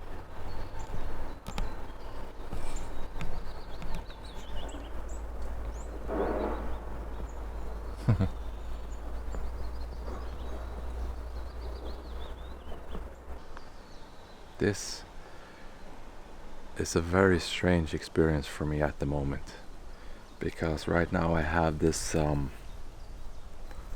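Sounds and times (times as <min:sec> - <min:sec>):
low outdoor rumble: 0:00.0 - 0:23.9
small birds chirping: 0:00.0 - 0:23.9.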